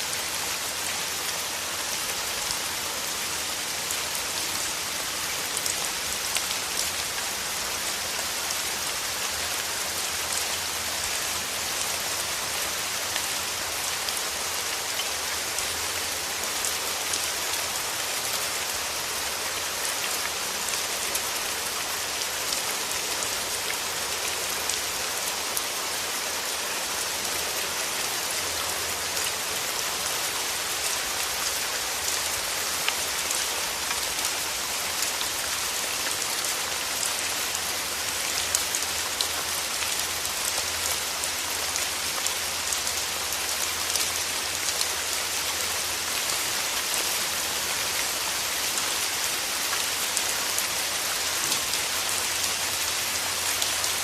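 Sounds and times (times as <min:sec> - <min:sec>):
rain falling through trees: 0:00.0 - 0:54.0.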